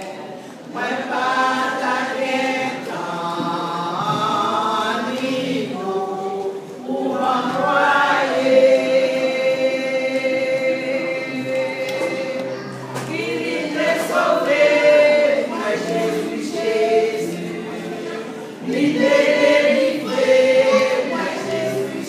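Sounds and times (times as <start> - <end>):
women's choir singing a hymn: 0.0 - 22.0.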